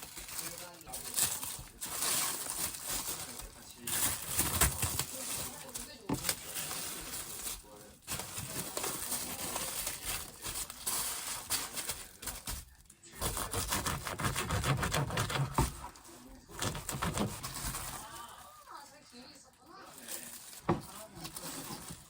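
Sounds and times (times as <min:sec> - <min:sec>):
crinkling: 0:00.0 - 0:22.0.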